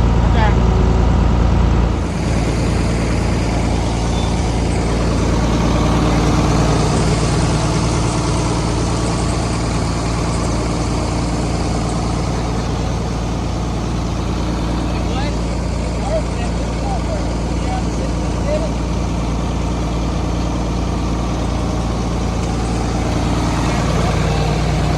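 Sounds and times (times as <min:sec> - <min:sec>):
large engine idling: 0:00.0 - 0:24.9.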